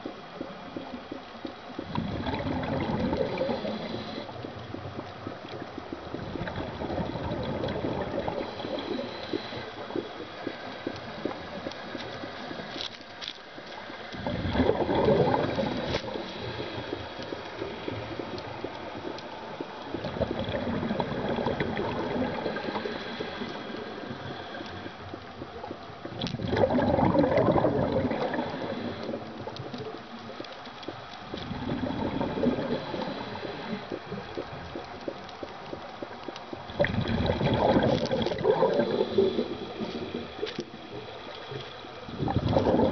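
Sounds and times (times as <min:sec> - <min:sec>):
gurgling exhaled bubbles: 0:00.0 - 0:12.8, 0:13.6 - 0:42.9.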